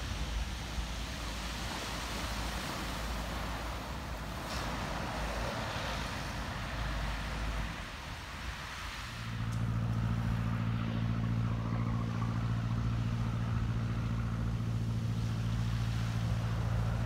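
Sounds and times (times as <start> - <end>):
low engine rumble: 0.0 - 17.0
waves washing onto beach: 0.0 - 17.0.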